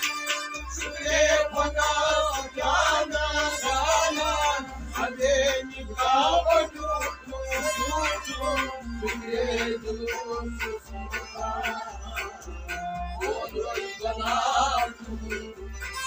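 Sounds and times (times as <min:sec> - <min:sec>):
harmonium: 0:00.0 - 0:16.0
low rhythmic pulse: 0:00.0 - 0:16.0
man singing folk song: 0:00.7 - 0:16.0.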